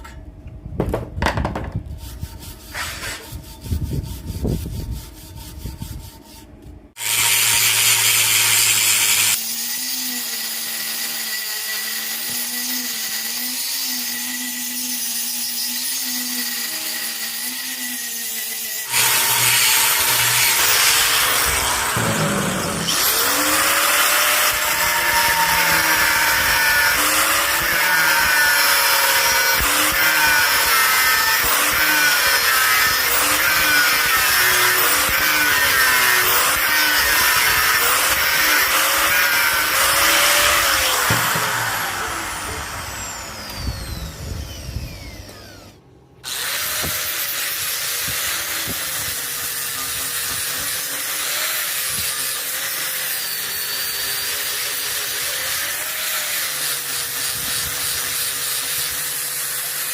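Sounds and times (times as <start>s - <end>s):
power tool running on metal: 7.0s - 14.9s, 16.0s - 59.9s.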